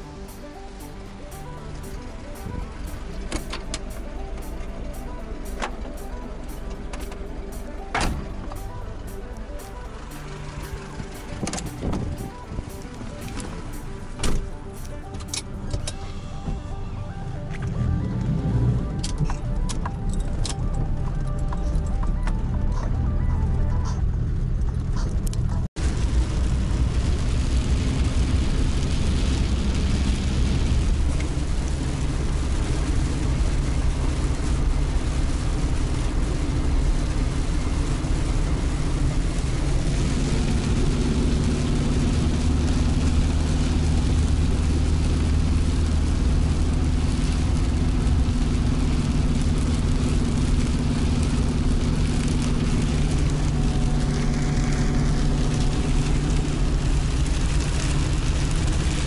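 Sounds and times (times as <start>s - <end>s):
car engine running: 0.0s - 59.0s
tyres on wet road: 0.0s - 59.0s.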